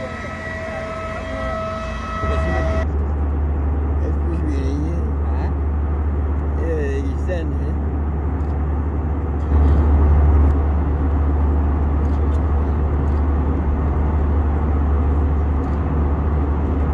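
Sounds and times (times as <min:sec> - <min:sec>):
jet engine cabin drone: 0:00.0 - 0:16.9.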